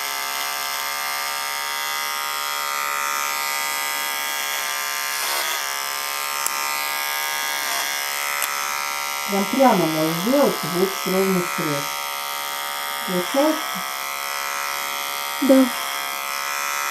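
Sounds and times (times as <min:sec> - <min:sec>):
electric hair clipper buzzing: 0:00.0 - 0:16.9.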